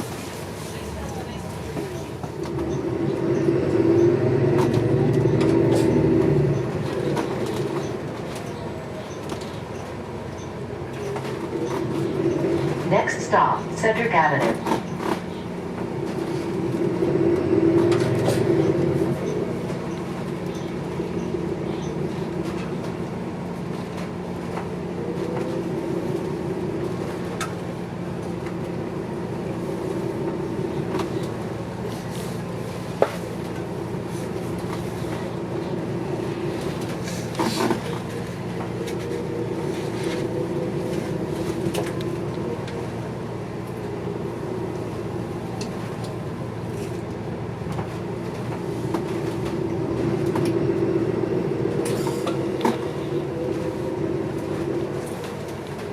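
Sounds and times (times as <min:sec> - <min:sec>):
bus running with rattles: 0:00.0 - 0:55.9.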